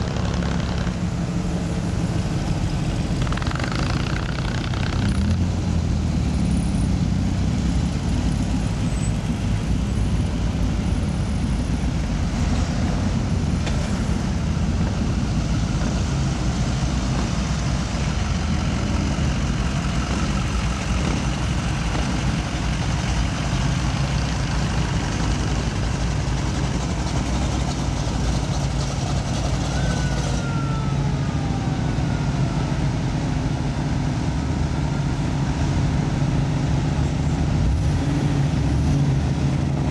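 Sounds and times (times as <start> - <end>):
car engines rumbling past: 0.0 - 39.9.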